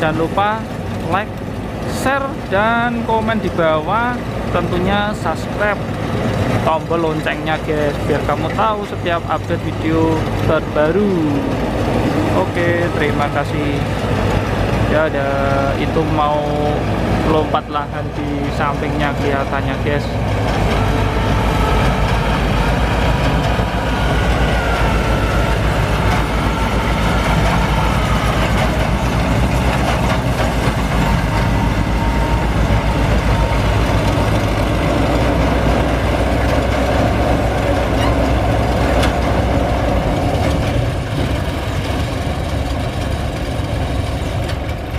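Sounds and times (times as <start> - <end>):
diesel engine throbbing: 0.0 - 44.9.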